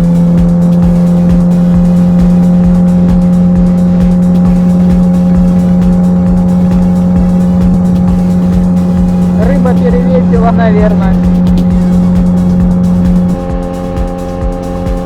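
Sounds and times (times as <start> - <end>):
low buffeting: 0.0 - 15.0
outboard motor drone: 0.0 - 15.0.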